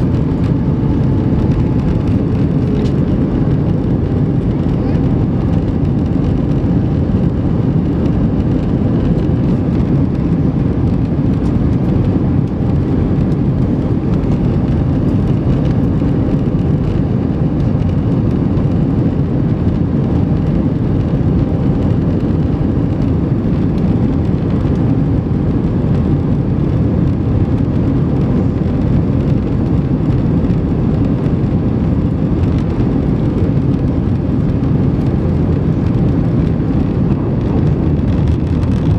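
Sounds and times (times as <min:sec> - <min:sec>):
jet engine and airflow rush: 0:00.0 - 0:38.9.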